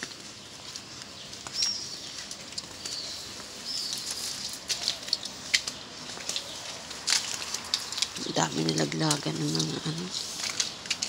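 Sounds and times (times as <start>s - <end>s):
small birds chirping: 0.0s - 11.0s
street background: 0.0s - 11.0s.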